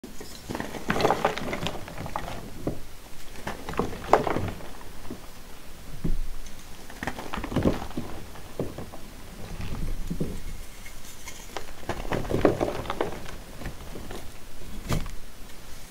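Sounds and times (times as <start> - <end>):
charcoal blocks crunching: 0.2 - 15.9.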